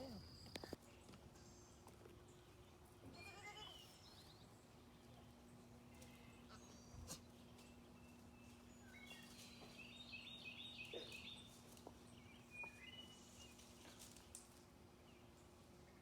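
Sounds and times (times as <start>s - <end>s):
faint bird chirping: 0.0s - 14.4s.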